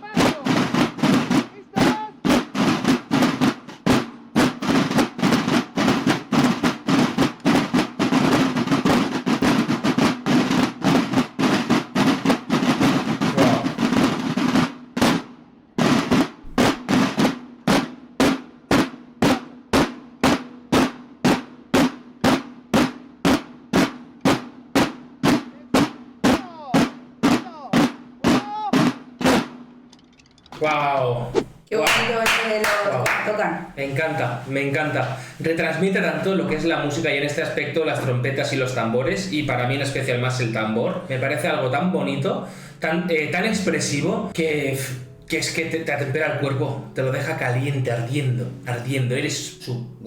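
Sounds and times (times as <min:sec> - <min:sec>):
snare drums playing a march: 0:00.0 - 0:29.8, 0:30.6 - 0:50.0.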